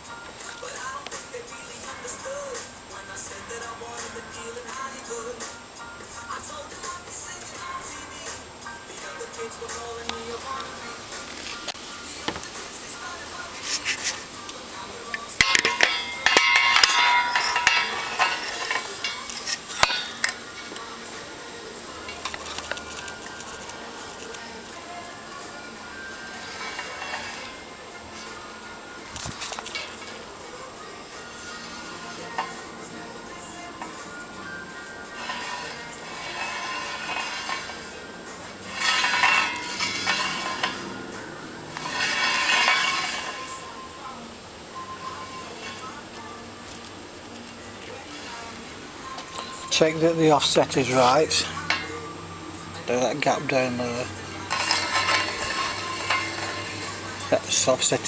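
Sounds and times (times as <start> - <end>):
metal spokes clinking: 0.0 - 58.0.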